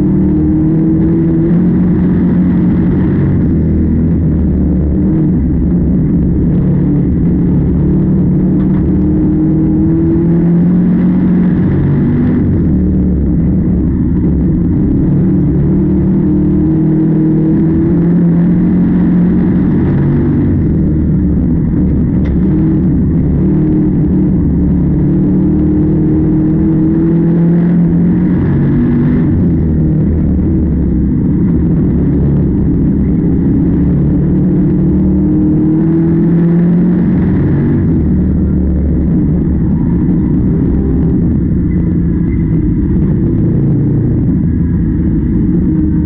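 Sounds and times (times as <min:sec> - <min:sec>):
heavy machinery engine droning: 0:00.0 - 0:46.0.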